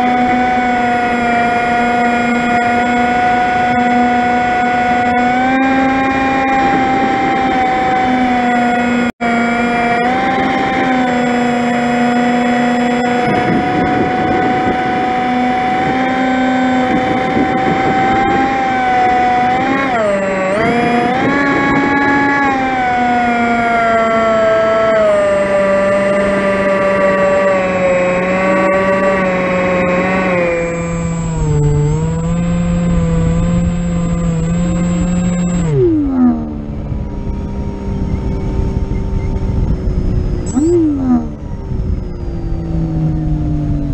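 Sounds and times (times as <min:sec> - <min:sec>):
wind rush over microphone: 0:00.0 - 0:09.0, 0:09.6 - 0:43.9
electric motor propeller whine: 0:00.0 - 0:43.9.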